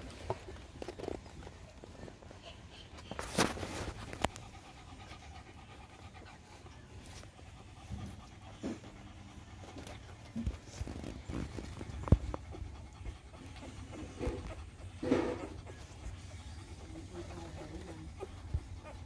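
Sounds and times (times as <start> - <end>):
puppy panting: 0.0 - 19.0.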